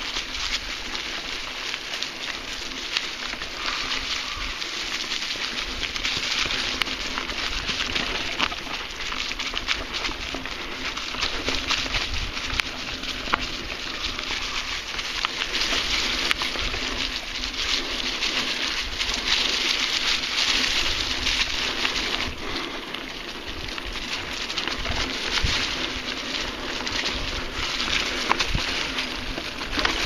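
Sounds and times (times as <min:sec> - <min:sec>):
bike tyres rolling over dry leaves: 0:00.0 - 0:30.0
small clicks and rattles: 0:00.0 - 0:30.0.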